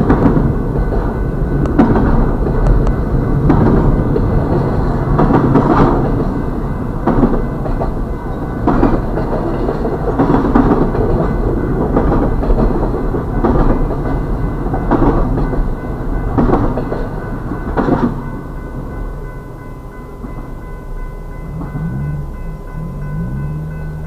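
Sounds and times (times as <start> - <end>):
wheels clacking over rail joints: 0.0 - 19.4, 20.0 - 24.0
freight train wheels rumbling: 0.0 - 24.0.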